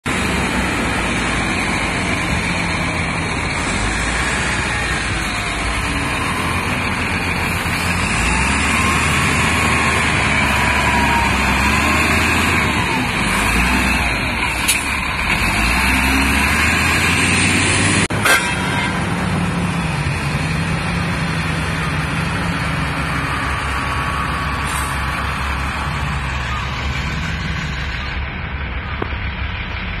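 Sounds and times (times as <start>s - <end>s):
diesel loader engines running: 0.1s - 30.0s.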